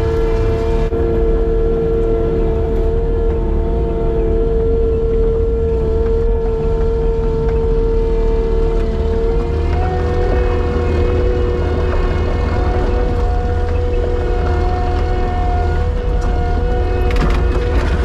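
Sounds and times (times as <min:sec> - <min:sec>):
machine engine running steadily: 0:00.0 - 0:18.0.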